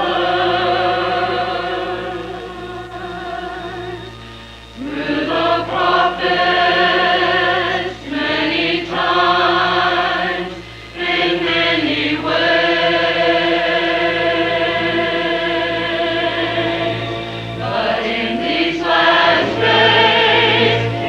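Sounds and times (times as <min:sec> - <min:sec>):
choir singing in parts: 0:00.0 - 0:04.2, 0:04.8 - 0:21.0
steady low hum: 0:00.0 - 0:21.0.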